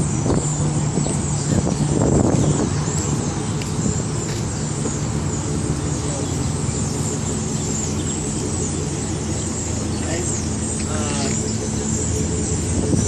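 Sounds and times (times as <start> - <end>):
road noise: 0.0 - 13.0
vehicle engine humming: 0.0 - 13.0.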